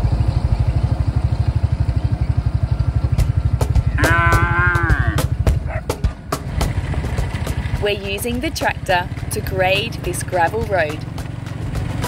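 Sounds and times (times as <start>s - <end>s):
drawn-out animal call: 0.0s - 12.0s
engine idling: 0.0s - 12.0s.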